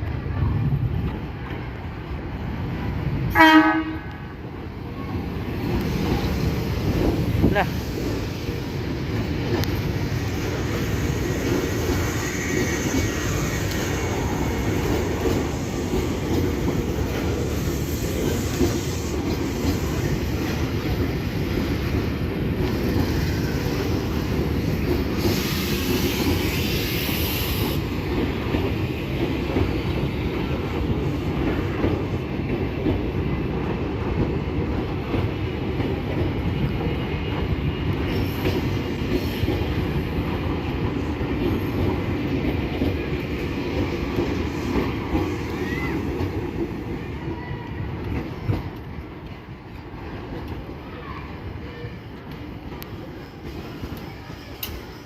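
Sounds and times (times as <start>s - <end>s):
electric train wheels clattering: 5.2s - 50.8s, 51.4s - 55.0s.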